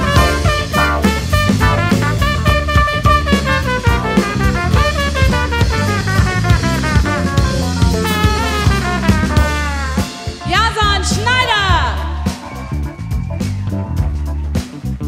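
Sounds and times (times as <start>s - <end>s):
trumpet solo: 0.0s - 13.1s
drum kit: 0.0s - 15.0s
electric bass: 0.0s - 15.0s.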